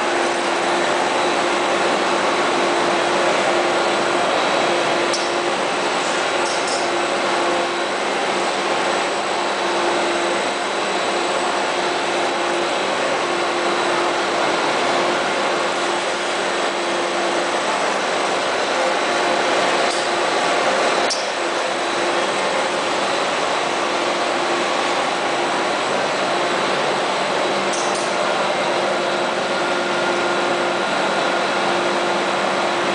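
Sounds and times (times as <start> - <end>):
machinery running with hum: 0.0 - 32.9.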